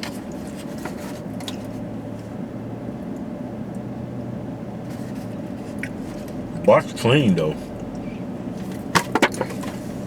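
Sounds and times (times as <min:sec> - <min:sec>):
car engine hum: 0:00.0 - 0:10.0.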